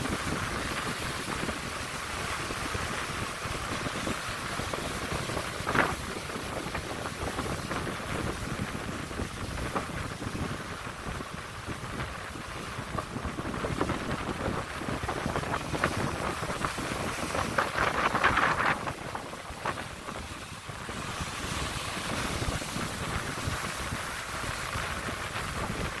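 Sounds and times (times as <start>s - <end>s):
heavy surf crashing on rocks: 0.0s - 26.0s.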